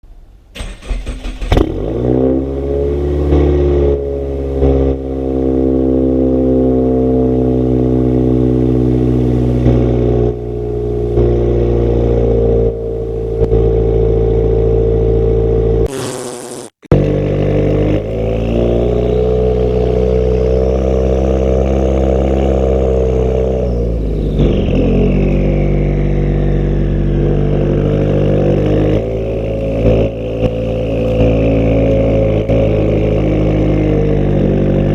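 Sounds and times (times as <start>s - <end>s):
loud car engine revving: 0.8s - 34.9s.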